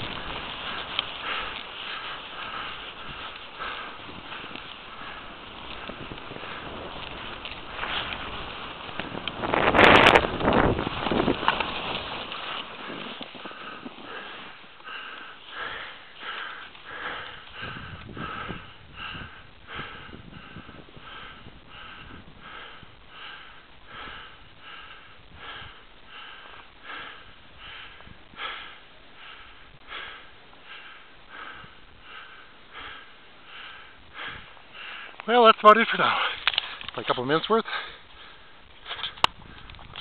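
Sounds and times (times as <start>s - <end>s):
heavy rapid breathing: 0.0s - 11.6s, 12.4s - 40.0s
rustling and wind noise: 0.0s - 40.0s.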